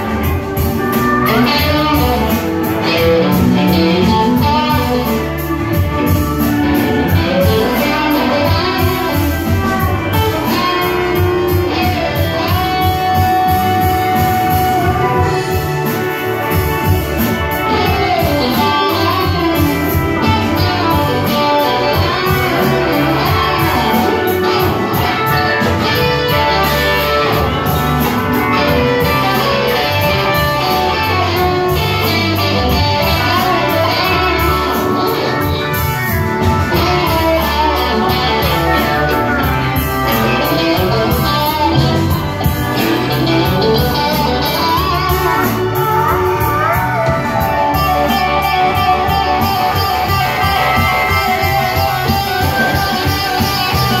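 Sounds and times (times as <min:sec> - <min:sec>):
electric guitar bending notes: 0:00.0 - 0:54.0
live country band music: 0:00.0 - 0:54.0.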